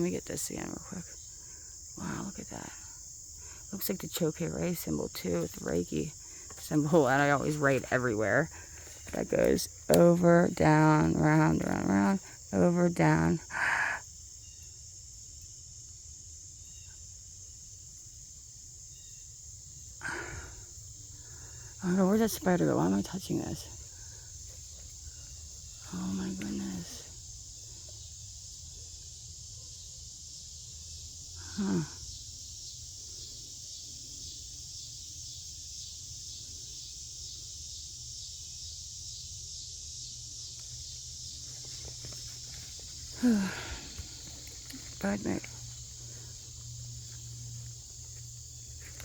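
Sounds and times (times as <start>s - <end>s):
insect chorus drone: 0.0s - 49.0s.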